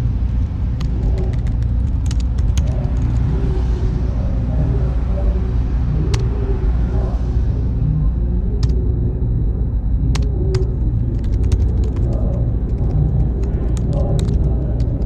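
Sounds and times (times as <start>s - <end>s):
faint high whine: 0.0s - 15.0s
low machine hum: 0.0s - 15.0s.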